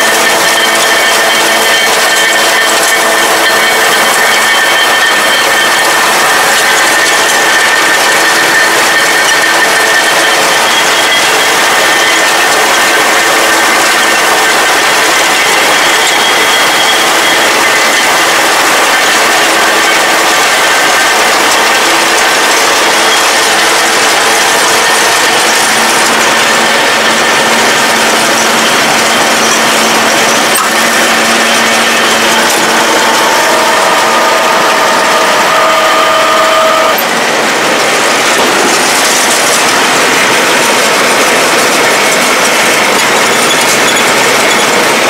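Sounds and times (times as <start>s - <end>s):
tractor and baler running: 0.0s - 45.0s.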